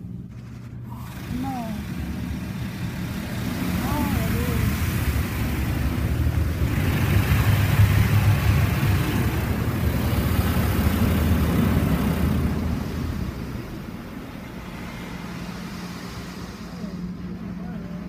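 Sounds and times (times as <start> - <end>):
high-pressure water spray hissing: 0.9 - 17.6.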